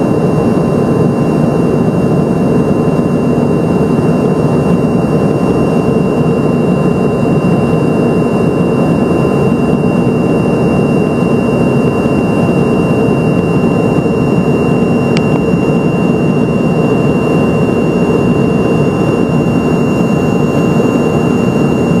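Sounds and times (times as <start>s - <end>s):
airplane cabin roar: 0.0s - 22.0s
thin steady whine: 0.0s - 22.0s.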